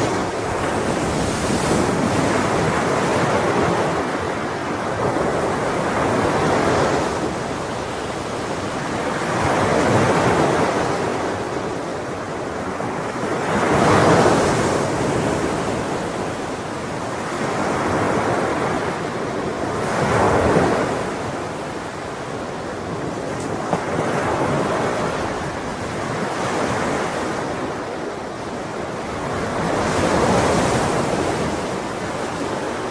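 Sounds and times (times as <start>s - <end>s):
sea waves breaking on shore: 0.0s - 32.9s.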